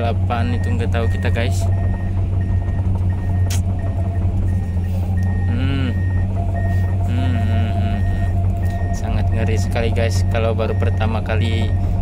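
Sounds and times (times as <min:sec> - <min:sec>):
excavator diesel engine droning: 0:00.0 - 0:12.0
high-pitched travel alarm beeps: 0:00.3 - 0:12.0.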